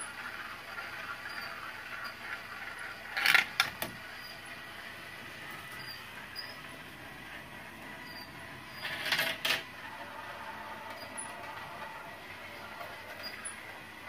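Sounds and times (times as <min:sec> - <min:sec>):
marbles rolling on plastic track: 0:00.0 - 0:14.0.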